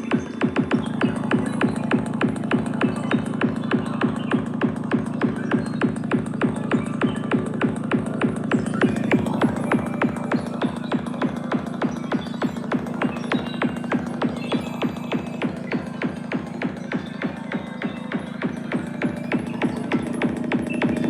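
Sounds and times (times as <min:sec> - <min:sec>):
techno music from speaker: 0:00.0 - 0:21.0.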